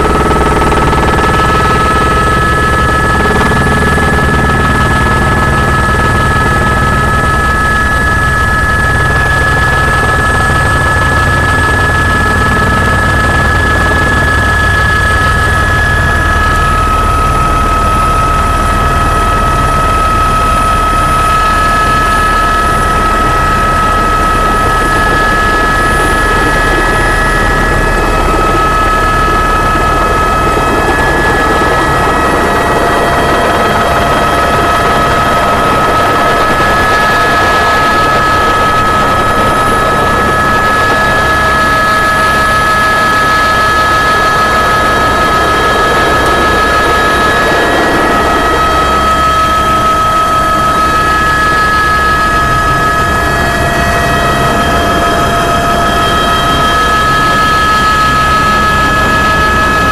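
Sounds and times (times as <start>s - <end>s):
helicopter rotor chop and whine: 0.0s - 59.9s.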